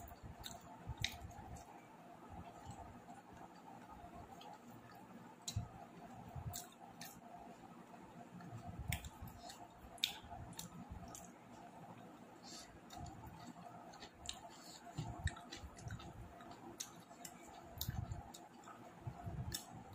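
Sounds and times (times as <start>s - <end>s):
chewing and handling food: 0.0s - 19.9s
faint steady hum: 0.0s - 19.9s.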